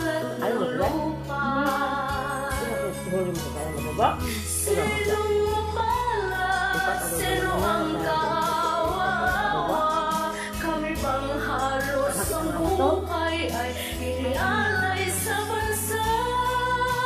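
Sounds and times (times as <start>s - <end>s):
slow ballad with singer: 0.0s - 17.0s.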